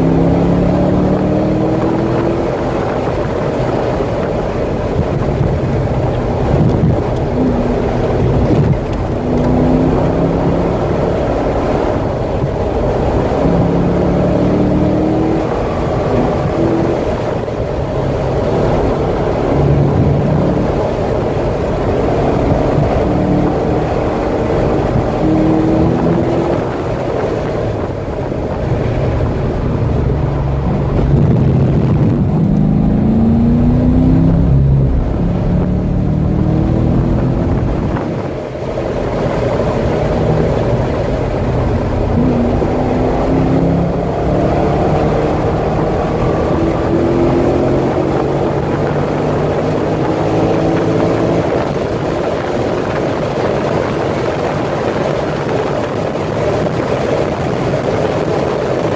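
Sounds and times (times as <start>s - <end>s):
car engine accelerating: 0.0s - 58.9s
road noise: 0.0s - 58.9s
wind noise: 0.0s - 58.9s.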